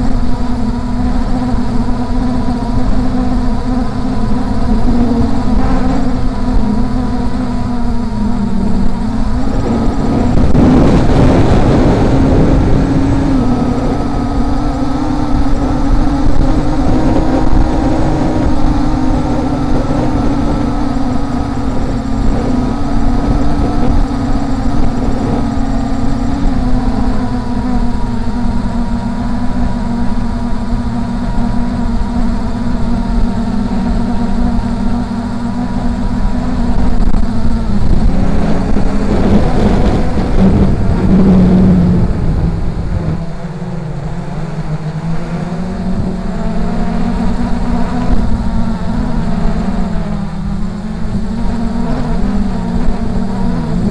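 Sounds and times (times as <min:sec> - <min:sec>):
quadcopter motors humming: 0:00.0 - 0:53.9
wind rumble on microphone: 0:00.0 - 0:53.9.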